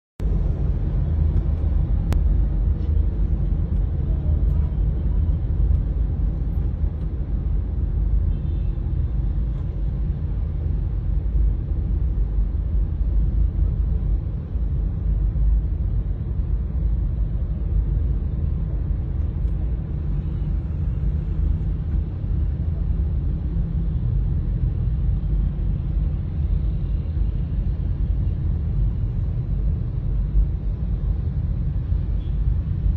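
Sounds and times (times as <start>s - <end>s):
car road rumble: 0.2s - 32.9s.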